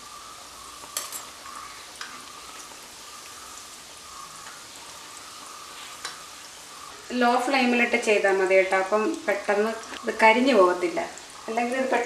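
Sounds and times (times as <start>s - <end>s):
dough deep-frying in oil: 0.0s - 12.0s.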